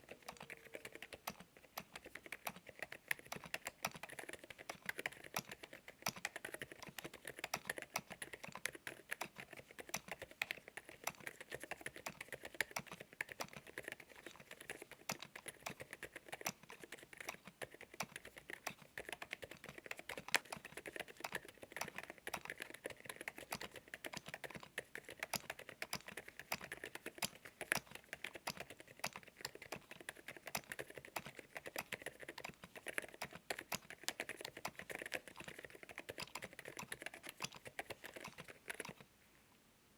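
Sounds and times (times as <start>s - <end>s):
mechanical keyboard typing: 0.0s - 39.0s.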